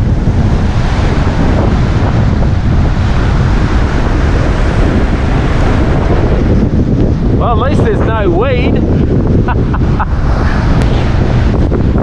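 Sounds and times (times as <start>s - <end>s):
heavy surf: 0.0s - 12.0s
wind buffeting microphone: 0.0s - 12.0s.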